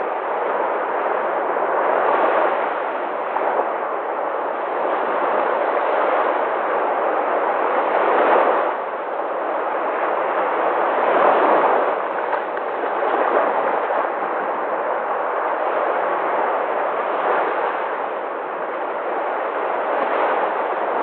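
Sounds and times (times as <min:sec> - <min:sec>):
sea waves breaking: 0:00.0 - 0:21.0.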